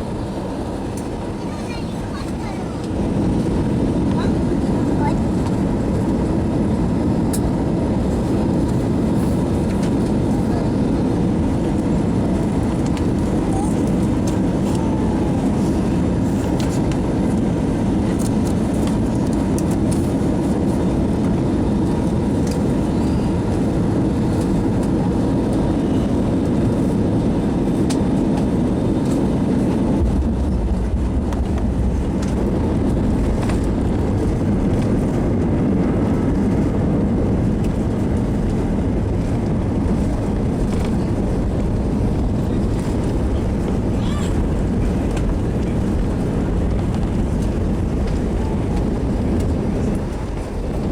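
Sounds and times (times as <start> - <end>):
deep rumble: 0.0 - 50.9
jet engine and airflow in cabin: 0.0 - 50.9.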